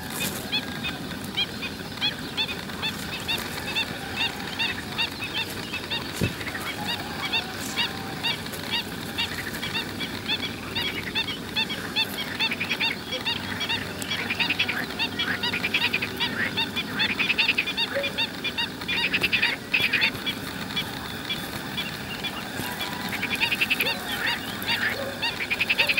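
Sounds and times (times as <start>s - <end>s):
birds calling: 0.0s - 25.9s.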